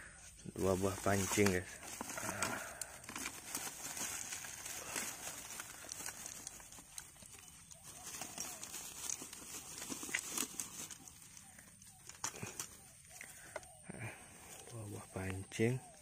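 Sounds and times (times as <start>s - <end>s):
footsteps through dry grass: 0.4s - 13.4s.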